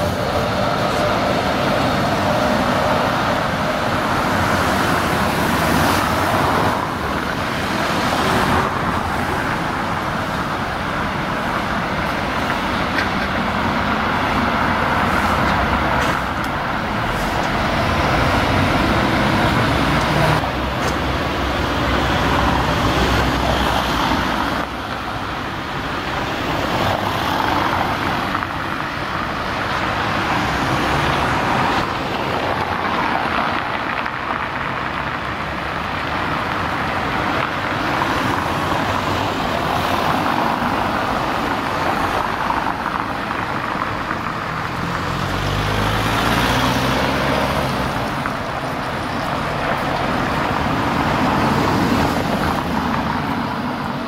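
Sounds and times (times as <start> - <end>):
cars driving past: 0.0 - 54.0.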